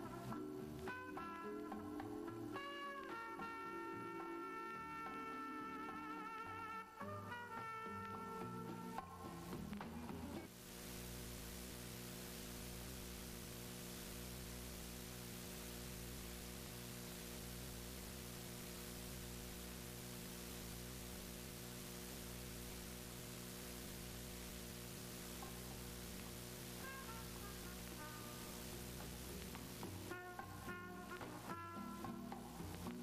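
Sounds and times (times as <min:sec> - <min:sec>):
low electrical hum: 0:00.0 - 0:33.0
steady hiss: 0:00.0 - 0:33.0.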